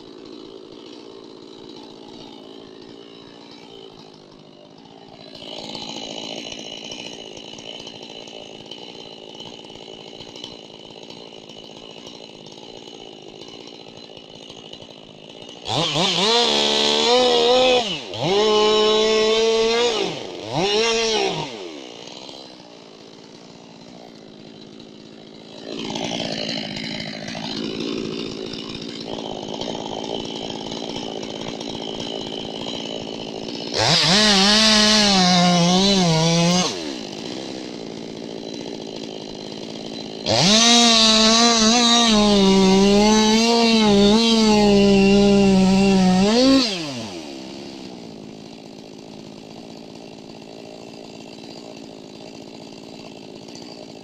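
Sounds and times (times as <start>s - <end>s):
chainsaw revving in bursts: 0.0s - 54.0s.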